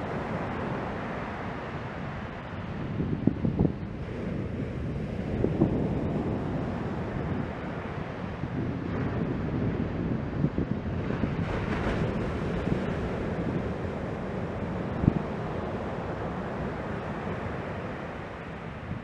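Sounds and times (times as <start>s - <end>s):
ocean surf breaking: 0.0s - 19.0s
wind on microphone: 0.0s - 19.0s.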